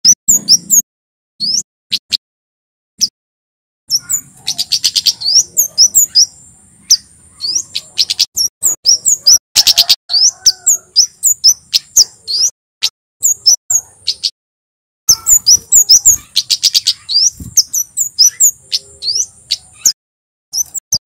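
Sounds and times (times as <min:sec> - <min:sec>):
bird chirping high sharp notes: 0:00.1 - 0:00.8, 0:01.4 - 0:02.1, 0:03.9 - 0:12.5, 0:13.2 - 0:14.4, 0:15.1 - 0:21.0.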